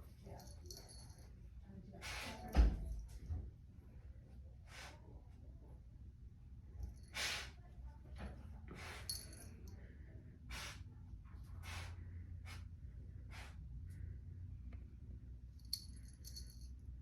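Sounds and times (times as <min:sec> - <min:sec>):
low steady hum: 0:02.8 - 0:17.0.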